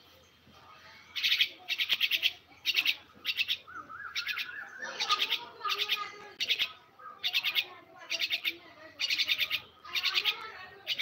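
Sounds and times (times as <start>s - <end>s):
myna harsh chattering calls: 1.1s - 11.0s.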